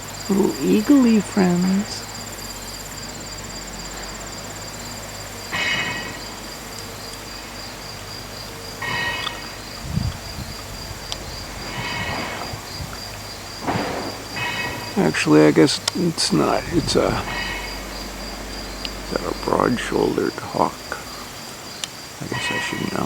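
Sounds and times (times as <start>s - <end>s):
crickets and katydids trilling: 0.0s - 23.0s.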